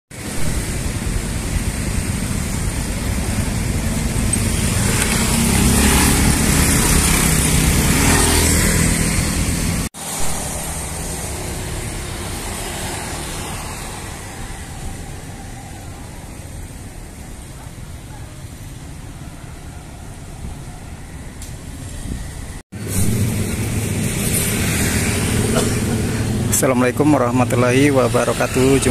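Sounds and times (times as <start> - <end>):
road traffic: 0.1 - 28.9.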